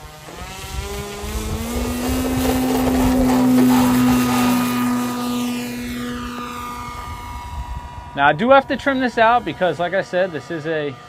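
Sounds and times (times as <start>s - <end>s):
electric motor and propeller whine: 0.0s - 11.0s.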